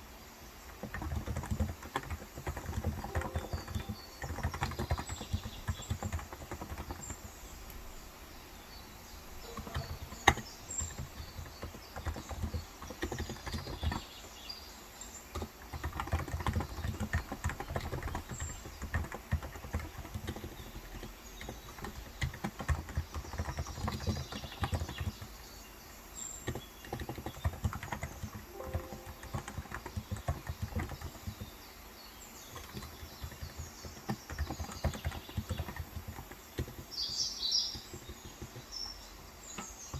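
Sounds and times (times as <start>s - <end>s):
faint bird chirps: 0.9s - 39.9s.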